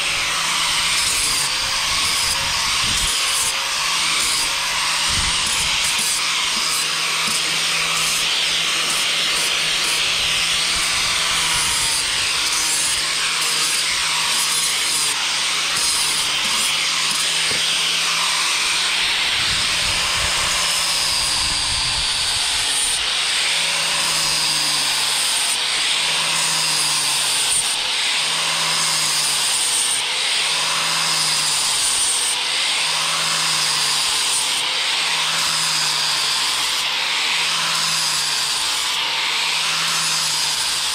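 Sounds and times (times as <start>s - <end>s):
angle grinder motor whine: 0.0s - 40.9s.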